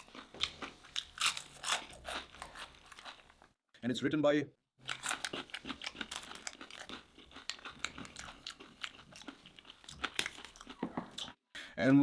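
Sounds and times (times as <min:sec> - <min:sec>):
crunching and chewing fried food: 0:00.0 - 0:03.3, 0:04.8 - 0:11.4.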